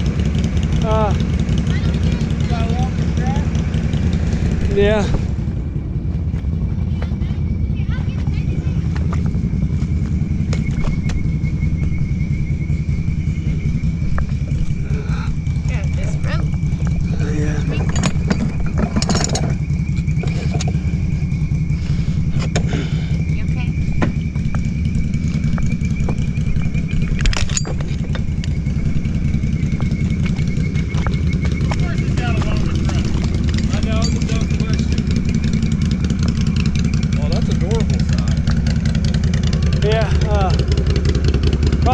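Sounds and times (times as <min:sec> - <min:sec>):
atv engine idling: 0:00.0 - 0:41.9.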